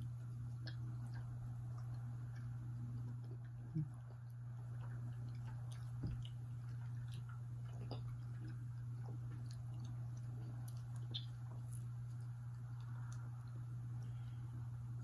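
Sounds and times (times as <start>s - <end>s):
chewing and mouth clicks: 0.0s - 14.3s
steady low hum: 0.0s - 15.0s.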